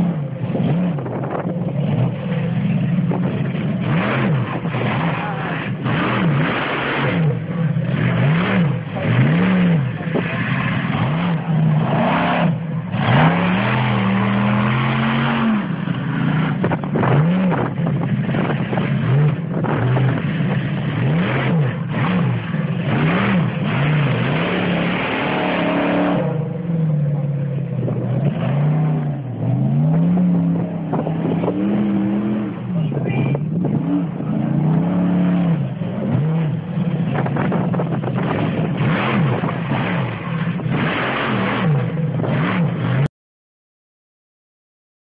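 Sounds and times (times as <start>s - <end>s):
monster truck engine revving: 0.0s - 43.1s.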